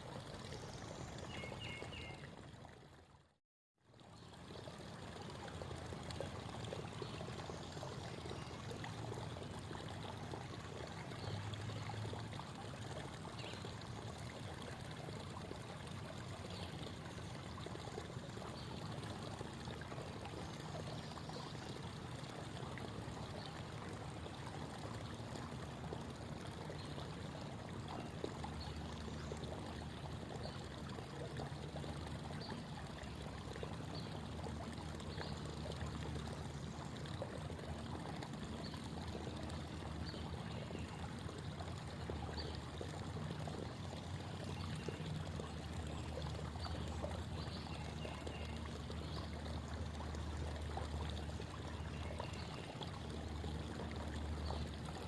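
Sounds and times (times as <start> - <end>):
creek water babbling: 0.0 - 55.0.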